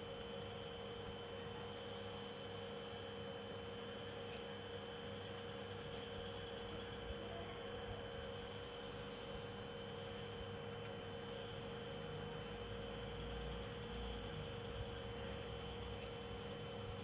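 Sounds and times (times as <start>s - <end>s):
faint steady hum with tones: 0.0s - 17.0s.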